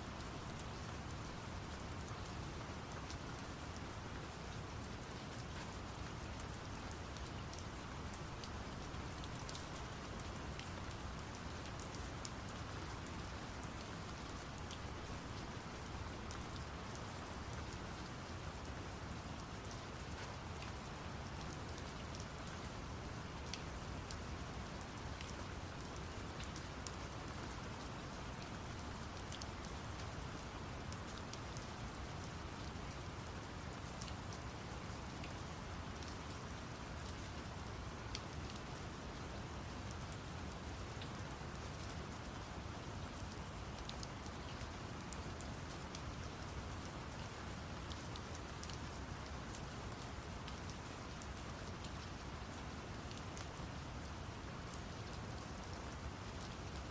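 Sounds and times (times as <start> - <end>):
rain drops pattering: 0.0 - 56.9.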